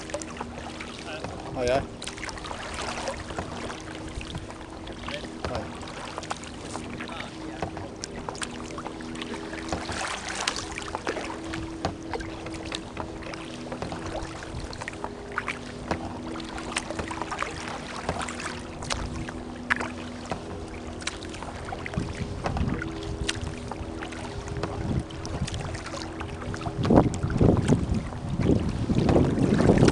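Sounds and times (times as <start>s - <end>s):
steady low hum: 0.0s - 29.9s
water lapping against kayak hull: 0.0s - 29.9s
wind rumble on microphone: 0.0s - 29.9s.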